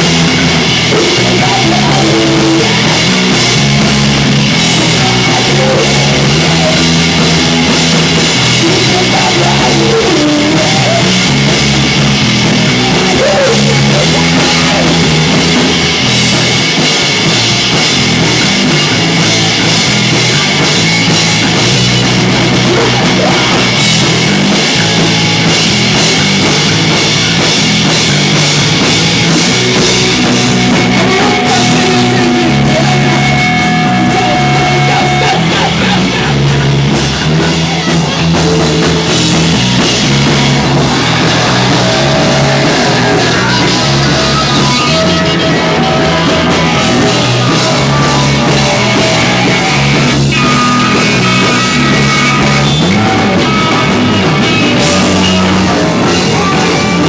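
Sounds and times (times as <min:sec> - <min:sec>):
punk rock band playing: 0:00.0 - 0:57.0.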